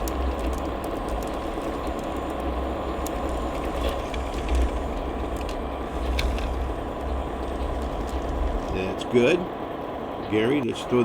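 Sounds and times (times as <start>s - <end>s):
wheels clicking on plastic track: 0.0s - 8.8s.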